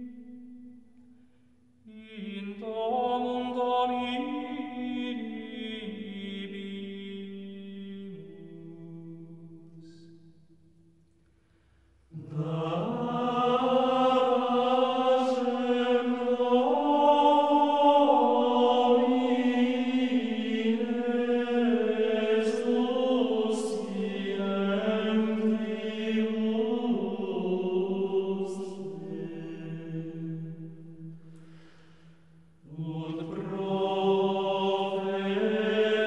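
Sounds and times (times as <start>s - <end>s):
choral chant music: 0.0s - 11.0s, 11.9s - 36.0s.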